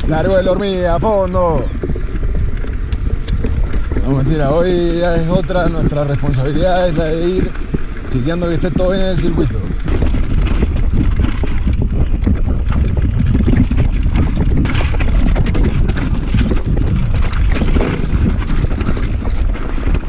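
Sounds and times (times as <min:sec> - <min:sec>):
bike frame and chain rattling: 0:00.0 - 0:20.0
wind buffeting microphone: 0:00.0 - 0:20.0.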